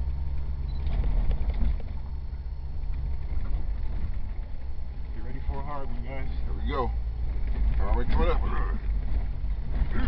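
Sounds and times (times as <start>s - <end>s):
vehicle engine rumbling in cabin: 0.0s - 10.0s.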